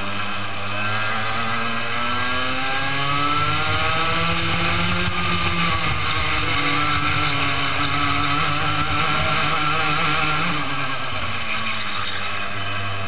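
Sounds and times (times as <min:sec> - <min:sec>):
racing kart engine at high revs: 0:00.0 - 0:13.0.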